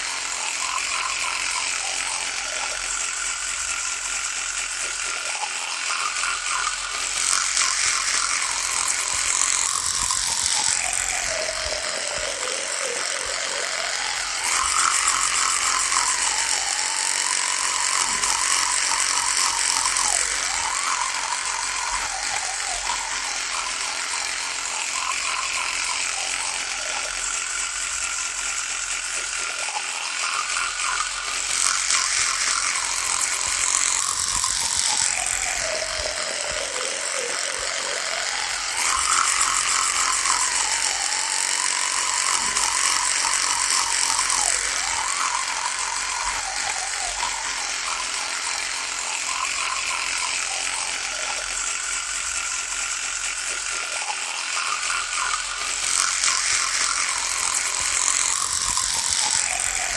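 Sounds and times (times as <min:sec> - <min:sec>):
electric toothbrush buzzing: 0:00.0 - 0:59.9.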